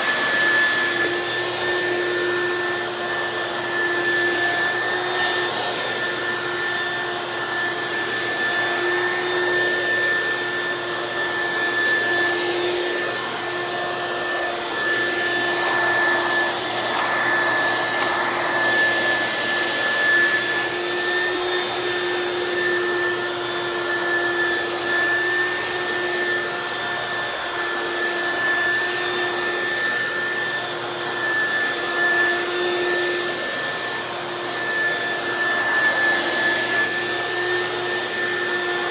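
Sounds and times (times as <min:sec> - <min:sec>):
stick vacuum running on rug: 0:00.0 - 0:38.9.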